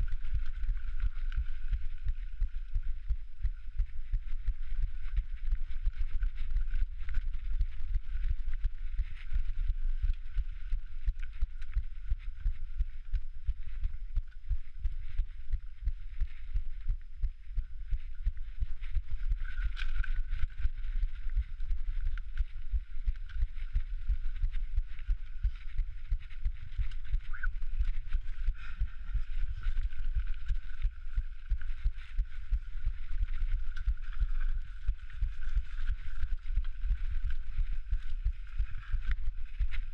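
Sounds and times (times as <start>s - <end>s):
faint steady whine: 0.0s - 39.9s
heartbeat thumping: 0.0s - 39.9s.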